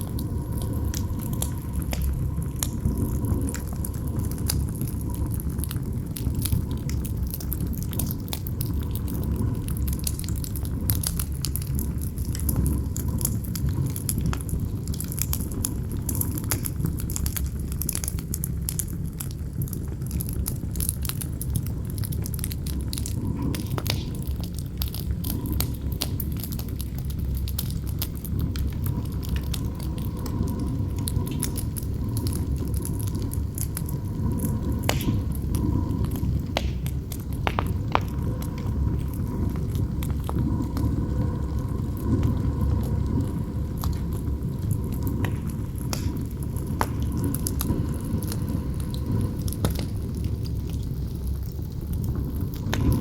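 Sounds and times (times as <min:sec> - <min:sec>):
campfire crackling and popping: 0:00.0 - 0:53.0
low rumble of wind: 0:00.0 - 0:53.0.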